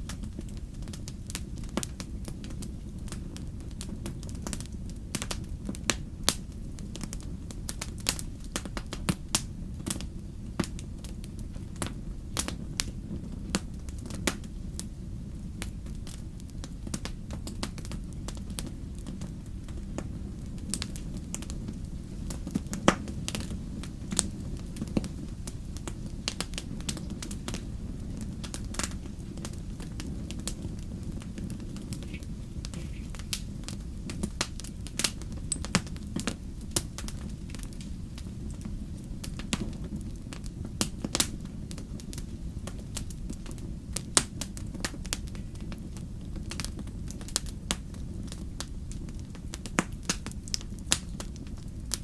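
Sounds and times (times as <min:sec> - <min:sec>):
fire rumbling: 0:00.0 - 0:52.0
wood fire popping and snapping: 0:00.0 - 0:52.0.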